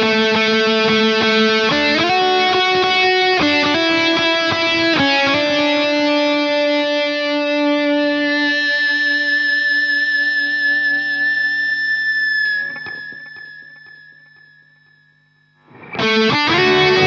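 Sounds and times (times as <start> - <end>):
electric guitar sliding melody: 0.0 - 14.5, 15.7 - 17.0.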